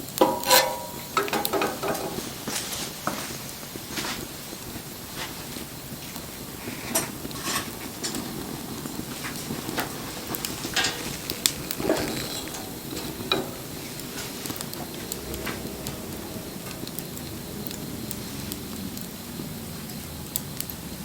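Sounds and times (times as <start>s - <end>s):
bonfire crackling and hissing: 0.0s - 21.0s
burning wood popping: 0.0s - 21.0s
low rush of flame: 0.9s - 21.0s.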